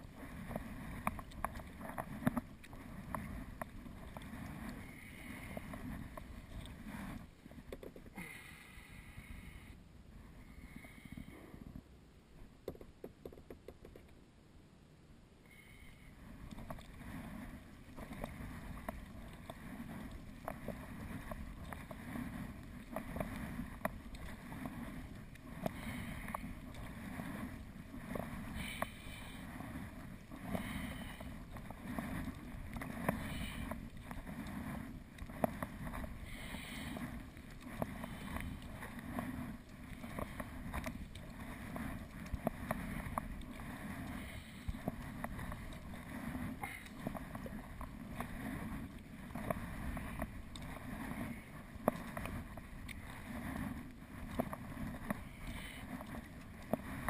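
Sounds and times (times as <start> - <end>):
paddle strokes splashing water: 0.0 - 8.1, 16.2 - 57.0.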